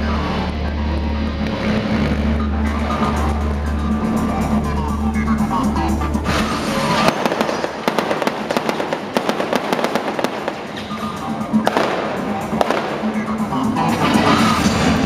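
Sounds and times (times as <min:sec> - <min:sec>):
loud background music: 0:00.0 - 0:15.0.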